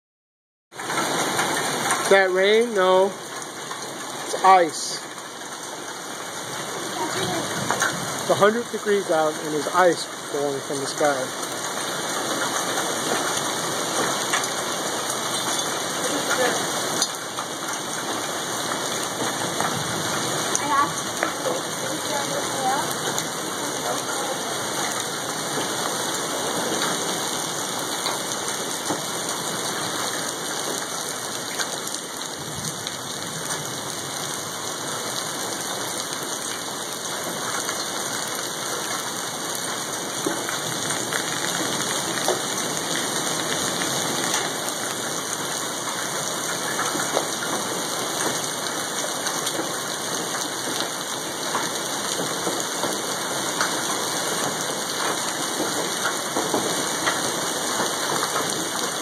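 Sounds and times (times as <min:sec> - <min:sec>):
hailstones ticking: 0:00.8 - 0:59.0
rain hissing: 0:00.8 - 0:59.0.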